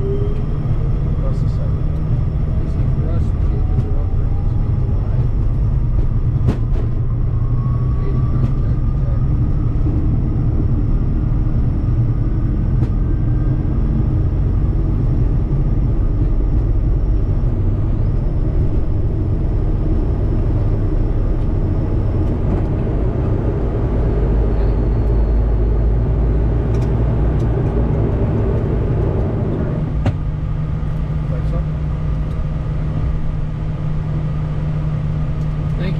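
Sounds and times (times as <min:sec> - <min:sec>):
jet engines rumbling: 0:00.0 - 0:35.9
faint rising whine: 0:07.0 - 0:35.9.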